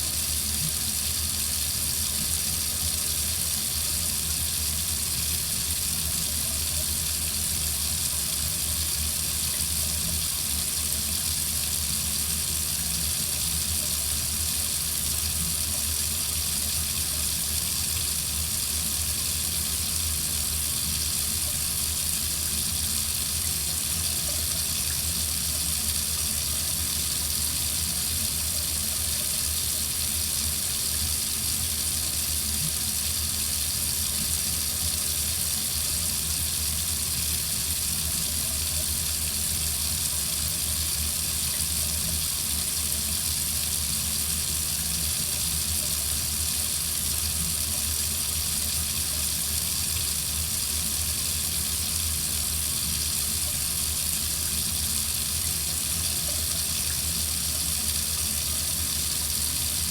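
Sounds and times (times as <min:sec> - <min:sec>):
faucet running: 0:00.0 - 0:59.9.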